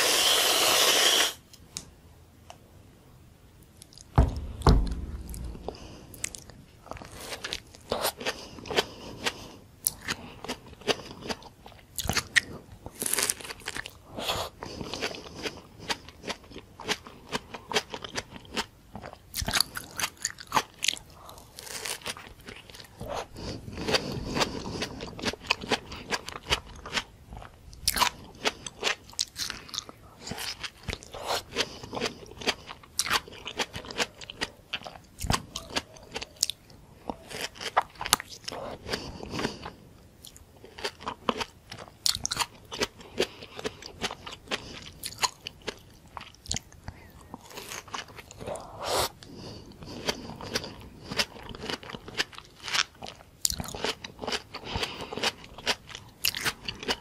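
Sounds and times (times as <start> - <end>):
chewing crunchy food: 5.8 - 57.0.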